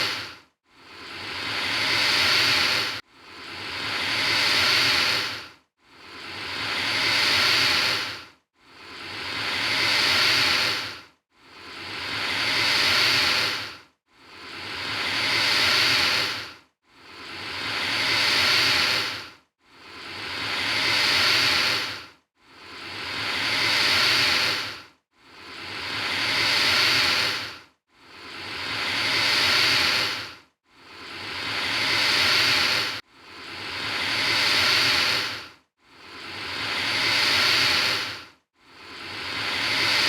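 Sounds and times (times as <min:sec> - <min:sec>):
alligator hissing: 0:00.0 - 0:00.3, 0:00.9 - 0:05.4, 0:06.1 - 0:11.0, 0:11.7 - 0:13.7, 0:14.4 - 0:19.2, 0:19.9 - 0:22.0, 0:22.7 - 0:24.8, 0:25.4 - 0:27.5, 0:28.2 - 0:35.5, 0:36.1 - 0:40.0.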